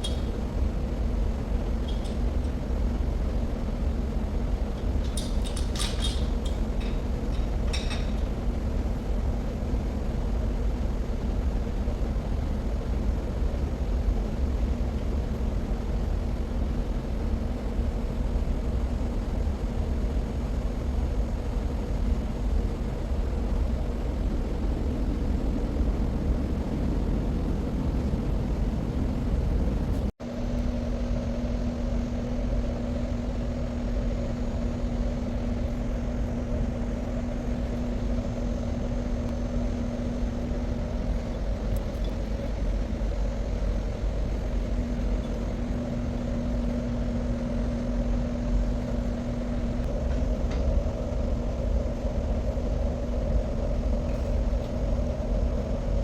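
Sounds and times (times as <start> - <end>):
electrical hum: 0.0 - 56.0
industrial machinery rumble: 0.0 - 56.0.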